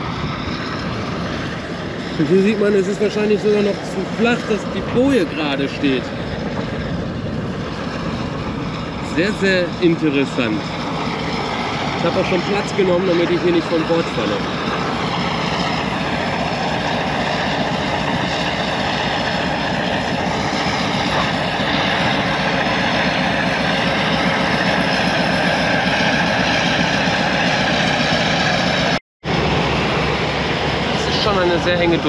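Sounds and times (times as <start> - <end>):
boat engine drone: 0.0 - 32.0
rushing wind: 0.0 - 32.0
water noise: 0.0 - 32.0.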